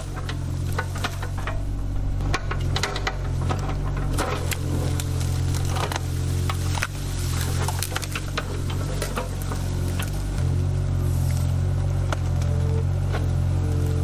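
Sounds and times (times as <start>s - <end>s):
excavator diesel engine running: 0.0s - 14.0s
roots and wood cracking: 0.0s - 14.0s.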